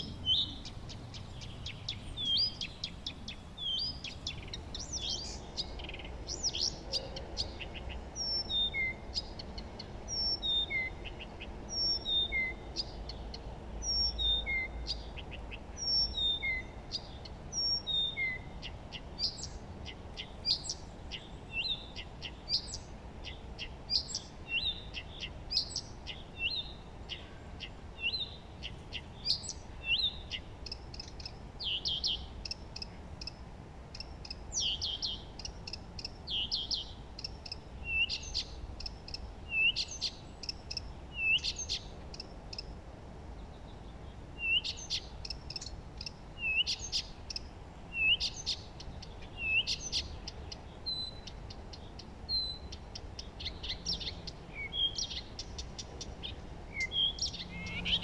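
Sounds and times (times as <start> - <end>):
songbirds chirping and whistling: 0.0 - 58.0.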